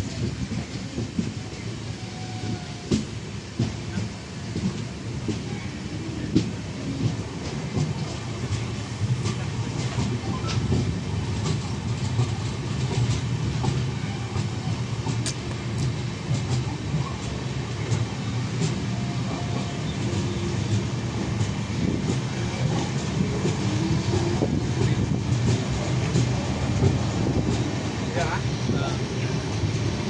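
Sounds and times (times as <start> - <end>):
train wheels rumbling on rails: 0.0 - 30.0
wheels clacking over rail joints: 2.8 - 30.0.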